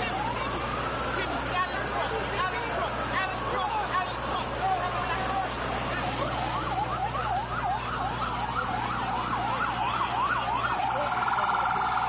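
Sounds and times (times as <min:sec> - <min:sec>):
emergency siren yelping: 0:00.0 - 0:12.0.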